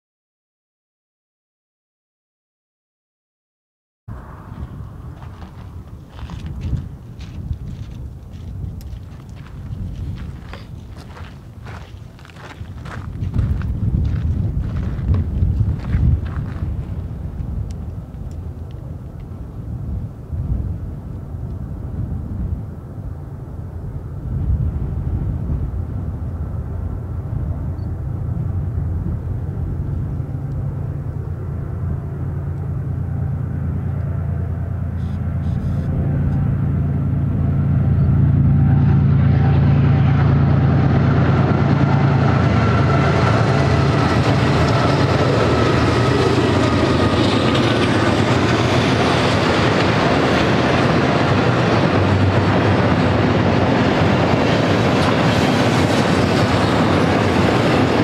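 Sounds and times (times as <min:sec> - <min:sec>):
train wheels rumbling on rails: 0:04.1 - 0:19.5, 0:24.2 - 0:58.0
diesel locomotive engine drone: 0:04.1 - 0:58.0.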